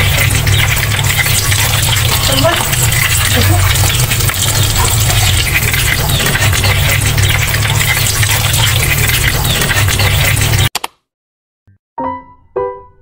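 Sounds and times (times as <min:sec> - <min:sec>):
food sizzling in hot oil: 0:00.0 - 0:10.7.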